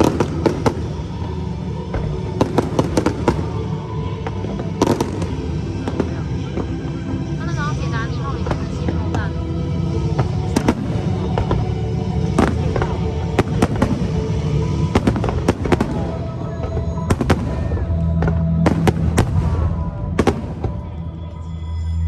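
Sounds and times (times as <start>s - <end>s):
fireworks bangs: 0.0s - 9.4s, 10.0s - 21.0s
music playing: 0.0s - 22.0s.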